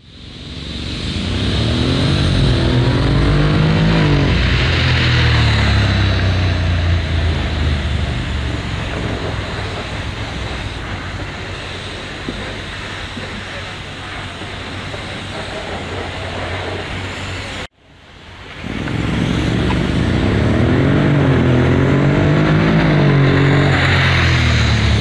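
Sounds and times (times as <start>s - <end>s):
motorcycle engine accelerating: 0.0s - 17.7s, 18.5s - 25.0s.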